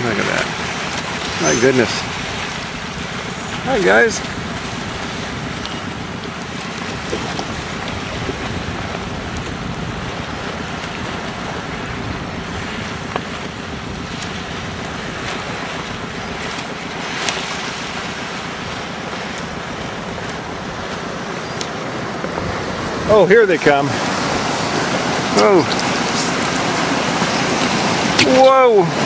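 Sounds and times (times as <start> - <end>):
water rushing: 0.0 - 29.0
wind buffeting microphone: 0.0 - 29.0.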